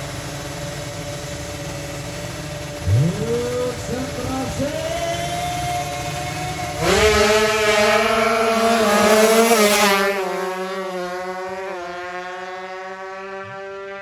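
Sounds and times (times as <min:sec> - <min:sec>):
two-stroke motorcycle revving: 0:00.0 - 0:14.0.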